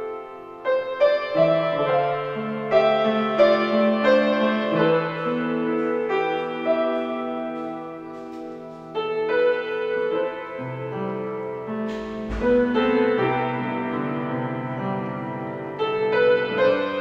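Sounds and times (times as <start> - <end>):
solo piano playing: 0.0 - 17.0.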